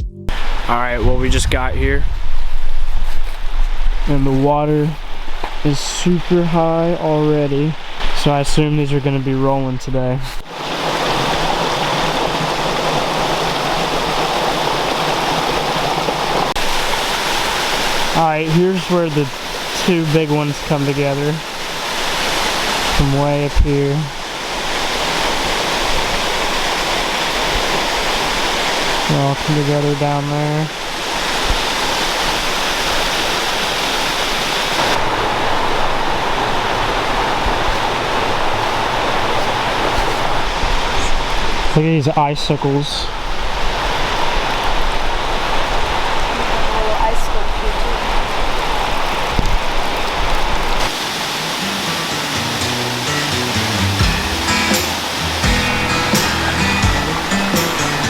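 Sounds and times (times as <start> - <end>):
creek water and waterfalls rushing: 0.3 - 58.0.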